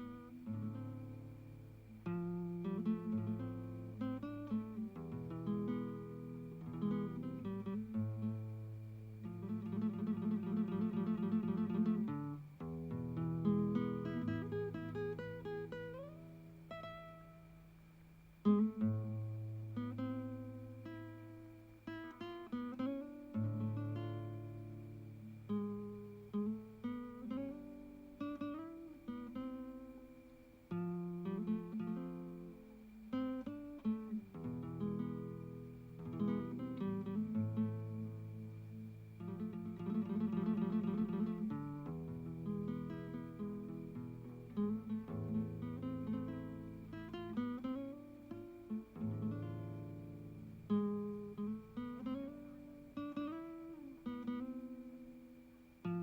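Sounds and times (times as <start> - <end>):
acoustic guitar music: 0.0 - 56.0.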